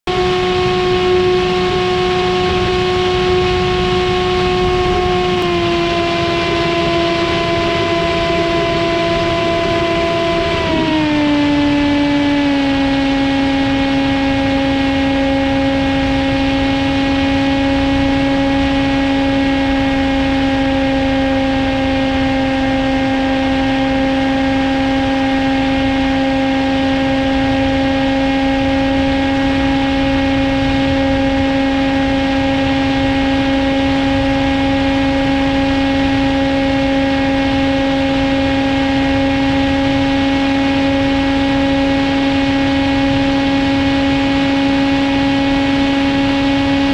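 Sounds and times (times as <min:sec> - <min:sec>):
electric motor buzzing whine: 0:00.1 - 0:46.9.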